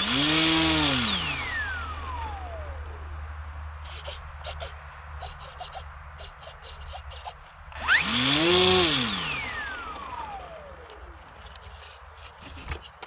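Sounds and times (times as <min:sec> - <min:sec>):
rc plane motor whining past: 0:00.0 - 0:03.2, 0:03.8 - 0:13.0.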